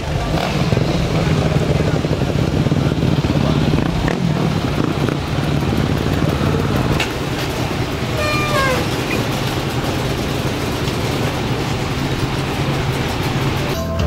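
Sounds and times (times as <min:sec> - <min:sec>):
motorcycle engines droning: 0:00.0 - 0:14.0.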